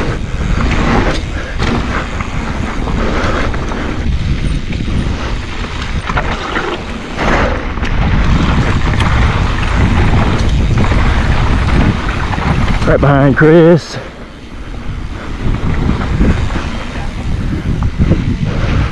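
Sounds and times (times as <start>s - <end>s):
bike clicks and clatters: 0.0s - 18.9s
mountain bike rolling on dirt: 0.0s - 18.9s
wind buffeting microphone: 0.0s - 18.9s.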